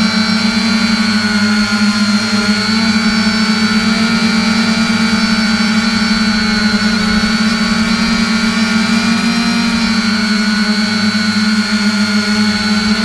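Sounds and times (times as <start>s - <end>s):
drone motors buzzing: 0.0s - 13.0s.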